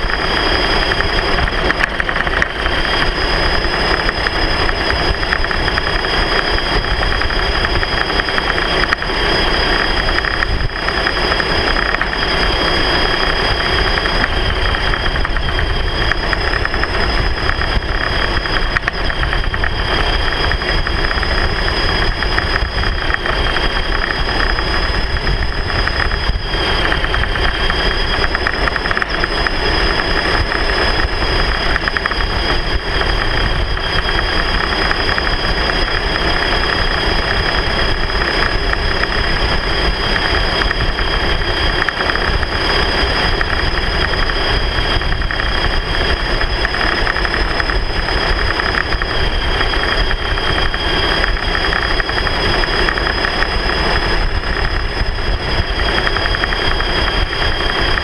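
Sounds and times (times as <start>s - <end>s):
high whine: 0.0s - 58.0s
rumbling road noise: 0.0s - 58.0s
vehicle running at low speed: 0.0s - 58.0s.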